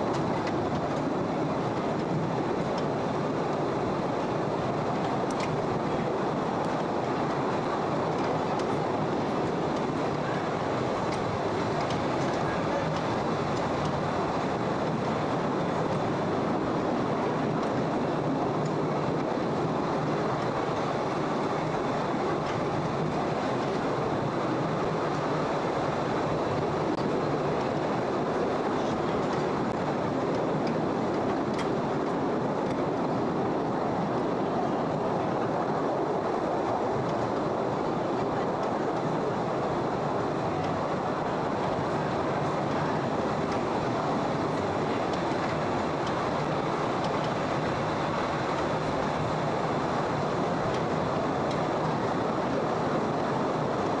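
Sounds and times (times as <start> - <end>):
train carriages rumbling on track: 0.0 - 54.0.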